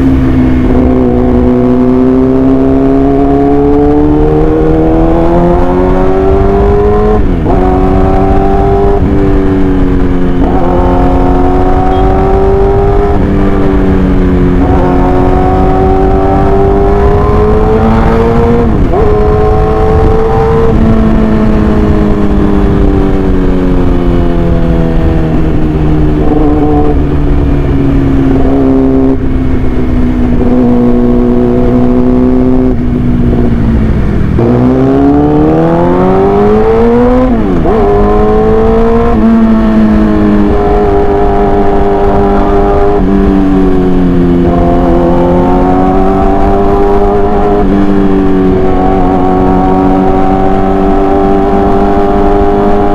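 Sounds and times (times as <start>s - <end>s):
sport motorcycle engine revving: 0.0s - 52.9s.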